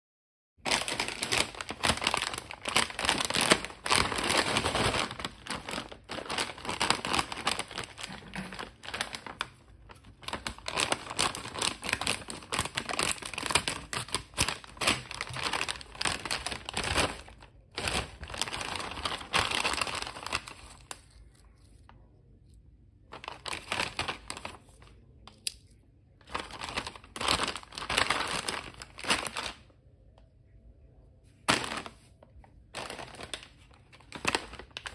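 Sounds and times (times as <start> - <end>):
plastic snack packets crinkling: 0.6 - 22.1, 23.1 - 29.8, 31.4 - 34.9.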